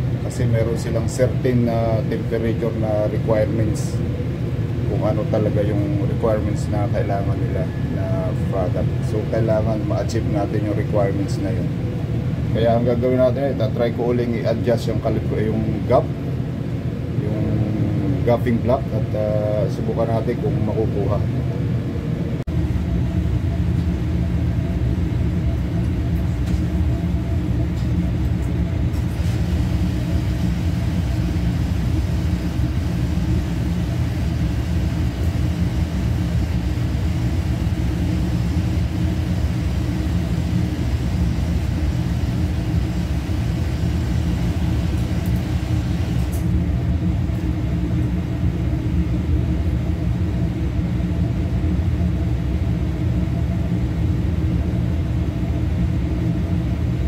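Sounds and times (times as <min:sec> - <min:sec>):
machinery hum and rumble: 0:00.0 - 0:57.0.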